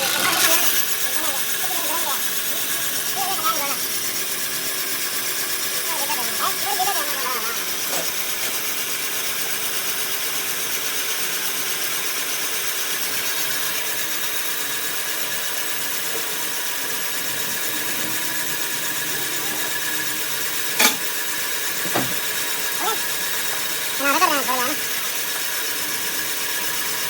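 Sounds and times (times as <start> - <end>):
machine whirring: 0.0 - 27.0.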